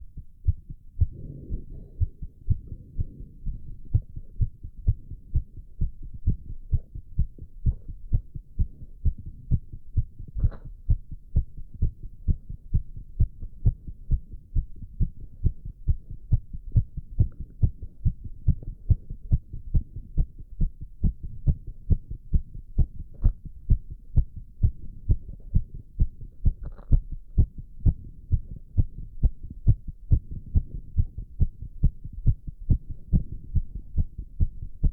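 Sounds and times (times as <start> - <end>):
heartbeat thudding fast: 0.0 - 34.9.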